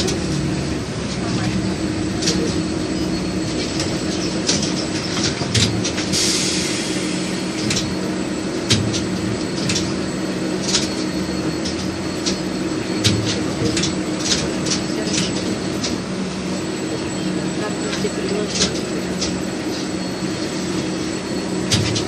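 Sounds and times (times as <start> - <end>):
wheels clacking on rails: 0.0 - 20.0, 20.6 - 22.0
tram interior hum: 0.0 - 22.0.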